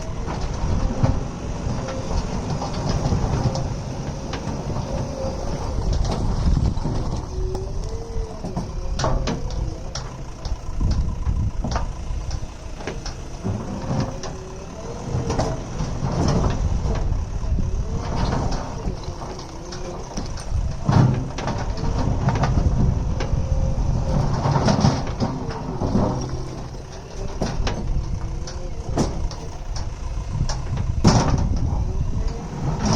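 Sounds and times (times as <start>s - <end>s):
diesel engine under load: 0.0s - 32.9s.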